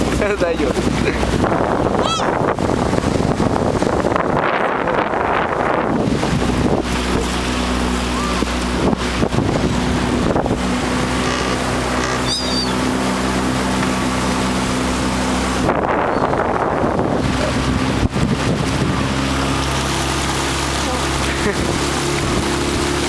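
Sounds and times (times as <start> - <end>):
boat engine running: 0.0 - 23.0
water along hull: 0.0 - 23.0
wind buffeting microphone: 0.0 - 23.0.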